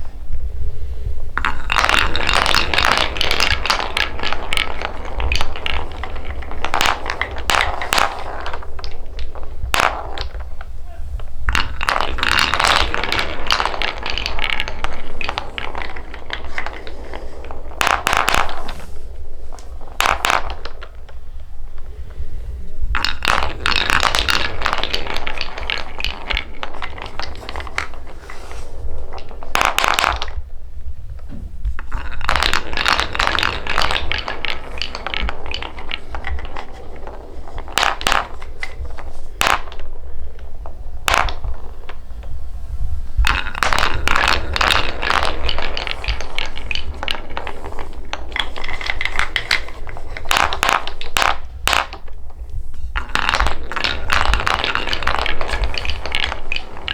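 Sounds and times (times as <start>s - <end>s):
balls rattling down wooden track: 0.0s - 56.9s.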